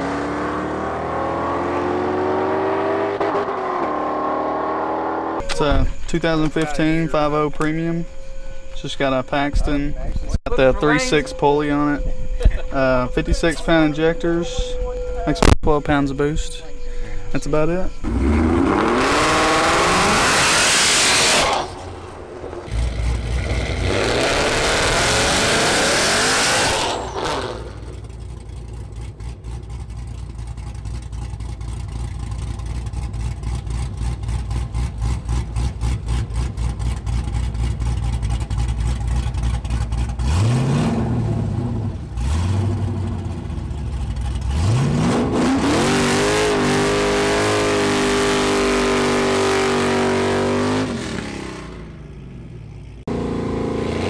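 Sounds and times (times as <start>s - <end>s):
car engines revving: 0.0s - 7.9s, 17.9s - 54.0s
car engines idling: 5.4s - 48.7s, 50.6s - 54.0s.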